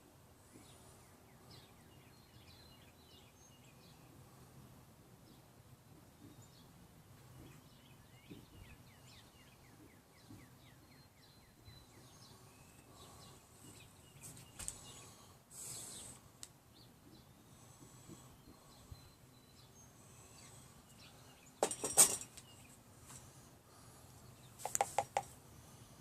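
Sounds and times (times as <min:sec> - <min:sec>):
birds chirping: 0:00.4 - 0:26.0.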